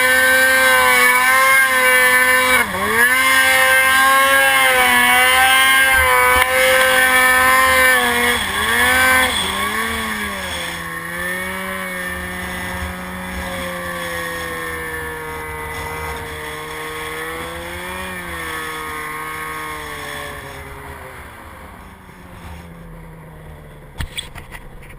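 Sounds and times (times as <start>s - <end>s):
snowmobile engine under throttle: 0.0s - 24.9s.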